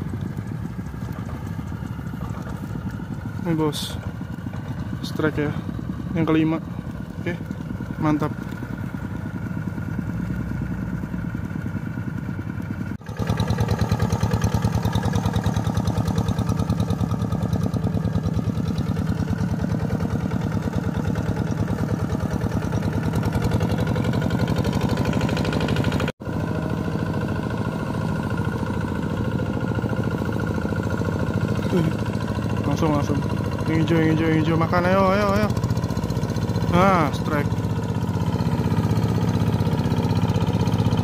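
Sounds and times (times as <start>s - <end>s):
hand tractor engine running: 0.0s - 41.0s.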